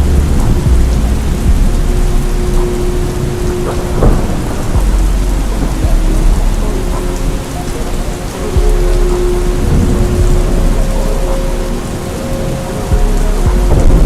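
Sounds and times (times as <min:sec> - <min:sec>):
heavy rain: 0:00.0 - 0:14.0
low thunder rumble: 0:00.0 - 0:14.0
slowed reverb hip-hop track: 0:00.0 - 0:14.0.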